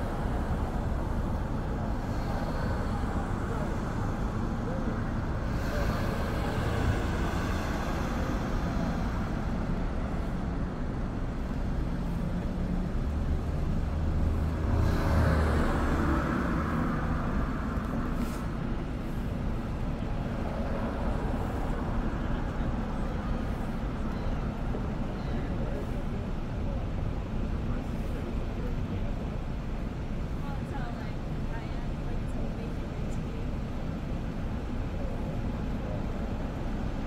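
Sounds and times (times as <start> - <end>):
low traffic rumble: 0.0 - 37.0.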